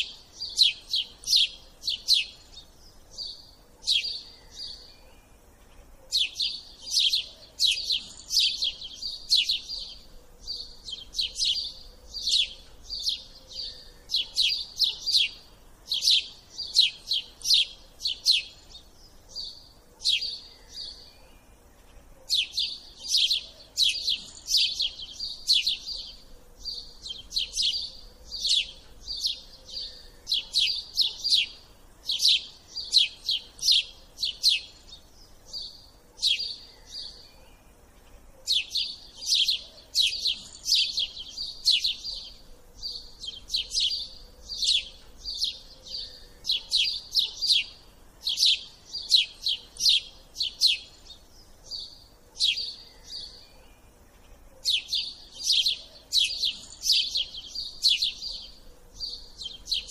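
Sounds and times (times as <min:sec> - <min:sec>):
small songbird chirping: 0:00.0 - 0:59.9.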